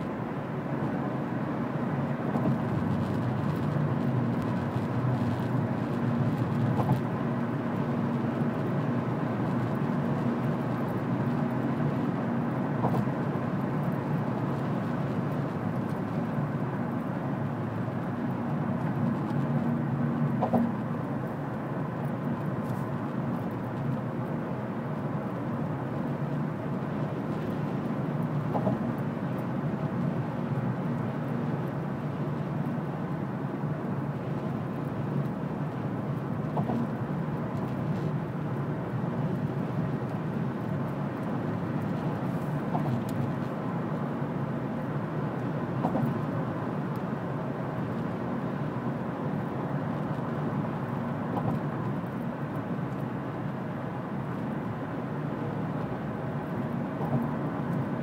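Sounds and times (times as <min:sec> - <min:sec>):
car cabin road and engine noise: 0:00.0 - 0:58.0.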